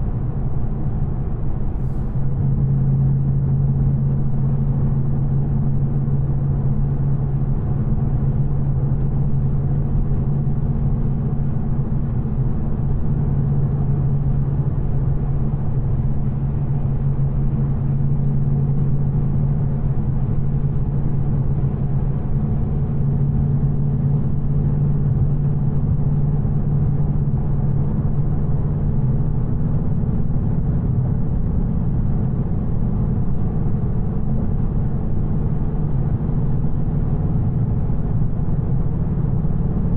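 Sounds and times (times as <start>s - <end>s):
car engine drone: 0.0s - 39.9s
road noise: 0.0s - 39.9s.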